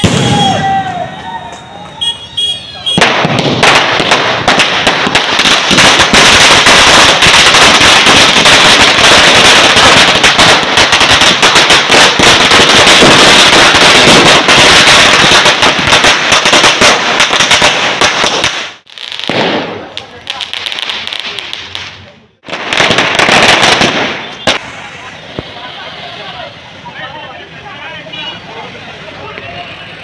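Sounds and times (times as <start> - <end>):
firecrackers cracking: 0.0 - 2.1, 2.8 - 27.6.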